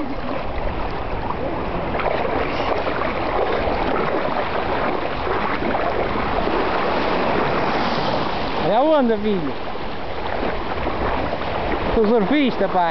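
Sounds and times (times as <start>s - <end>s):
sea water lapping in small waves: 0.0s - 12.9s.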